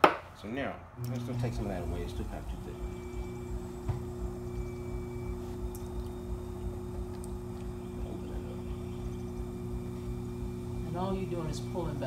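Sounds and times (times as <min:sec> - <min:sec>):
potter's wheel motor hum: 0:00.9 - 0:12.0.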